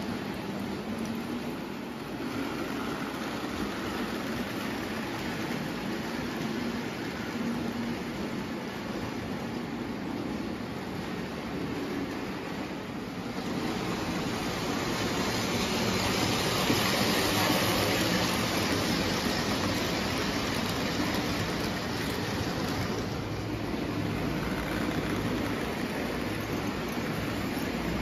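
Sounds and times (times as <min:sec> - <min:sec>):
model train wheels rumbling: 0:00.0 - 0:28.0.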